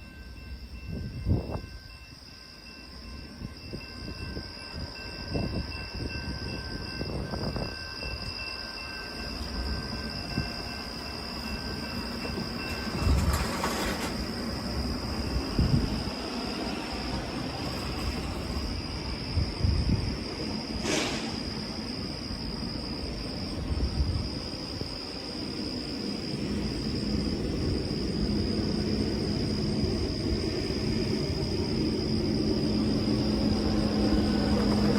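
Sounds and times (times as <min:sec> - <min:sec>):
rail cars clanking: 0:00.0 - 0:22.9, 0:26.0 - 0:34.9
train rumbling past: 0:00.0 - 0:34.9.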